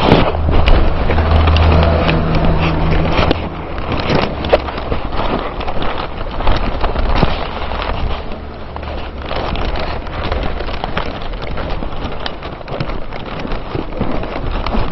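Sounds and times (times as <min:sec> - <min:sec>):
vehicle engine hum: 0:00.0 - 0:14.9.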